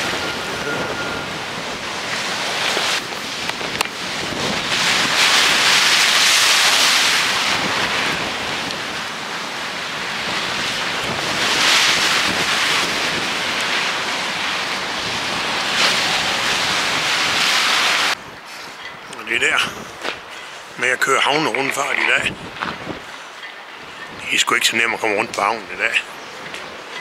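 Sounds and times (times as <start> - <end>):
wind on microphone: 0.0 - 24.4
sea waves washing in: 0.0 - 27.0.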